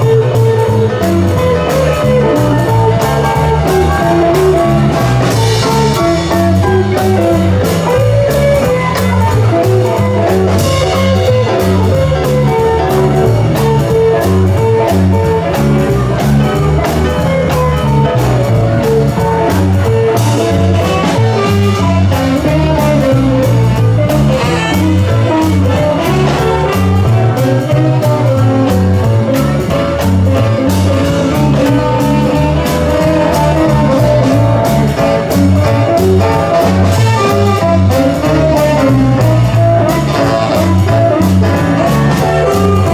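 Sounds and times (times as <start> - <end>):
drum kit: 0.0 - 42.9
electric guitar: 0.0 - 42.9
live blues band playing: 0.0 - 42.9
walking bass line: 0.0 - 42.9.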